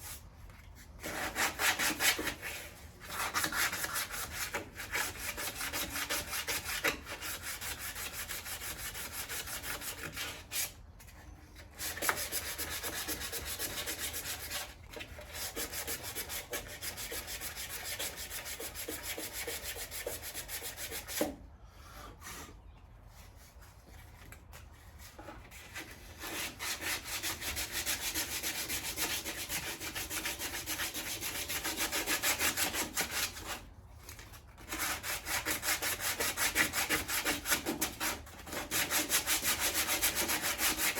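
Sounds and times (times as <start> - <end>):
sanding rasp: 1.0 - 10.7, 11.8 - 21.3, 25.5 - 33.6, 34.7 - 40.9.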